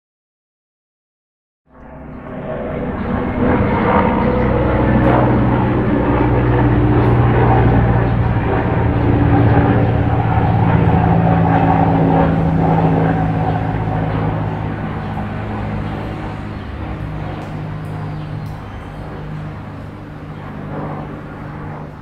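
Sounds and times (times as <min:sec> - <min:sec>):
drone propellers humming: 0:01.7 - 0:22.0.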